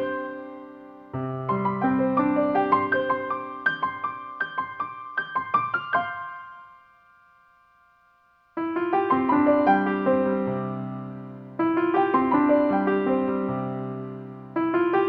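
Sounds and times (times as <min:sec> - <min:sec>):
piano music: 0:00.0 - 0:07.4, 0:08.6 - 0:15.0.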